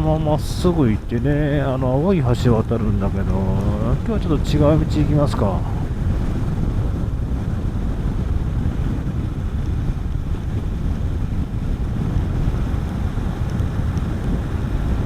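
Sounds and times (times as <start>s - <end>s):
wind buffeting helmet microphone: 0.0s - 15.0s
motorcycle engine running: 0.4s - 15.0s.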